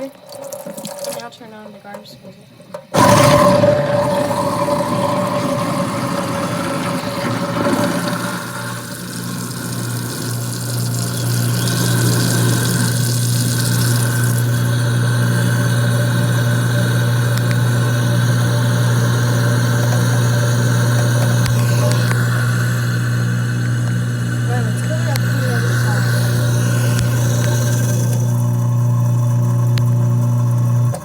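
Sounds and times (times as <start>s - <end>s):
garbage disposal grinding ice: 0.0s - 31.0s.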